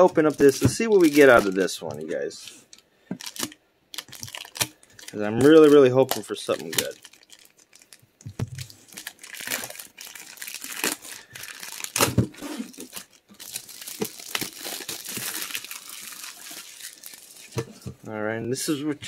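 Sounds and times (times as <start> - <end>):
packaging crinkling and tearing: 0.0 - 17.6.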